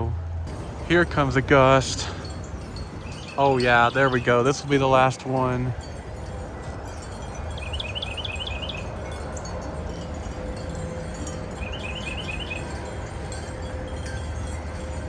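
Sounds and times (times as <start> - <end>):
high chirps: 0.5 - 15.0
wind chimes ringing faintly: 0.5 - 15.0
wind gusting on microphone: 0.5 - 15.0.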